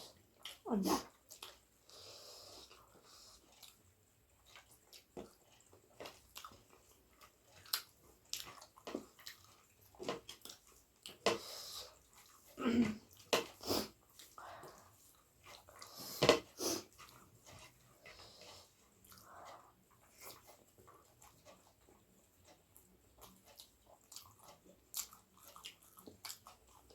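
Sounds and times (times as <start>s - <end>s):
wet chewing and smacking: 0.0s - 26.9s.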